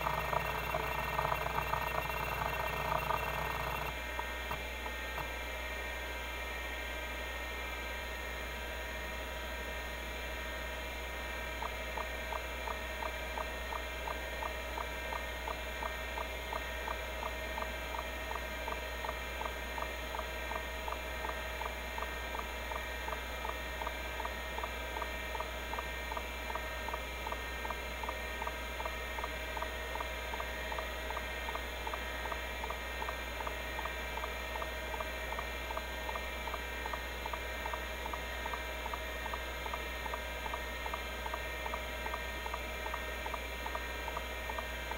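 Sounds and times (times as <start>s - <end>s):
hard drive spindle hum: 0.0s - 44.9s.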